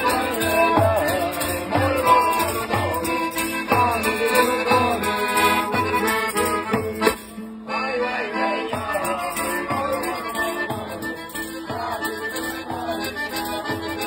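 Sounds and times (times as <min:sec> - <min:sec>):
jingling tambourine: 0:00.0 - 0:07.5, 0:08.7 - 0:14.0
accordion chords: 0:00.0 - 0:14.0
man singing: 0:00.0 - 0:14.0
strummed guitar: 0:00.0 - 0:14.0.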